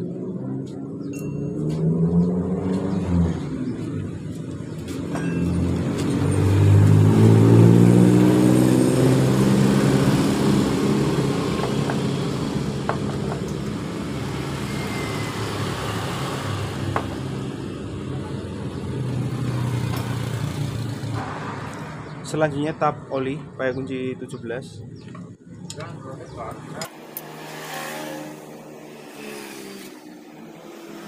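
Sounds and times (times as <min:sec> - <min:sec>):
vehicle engine revving: 0:01.5 - 0:22.3, 0:26.5 - 0:31.0.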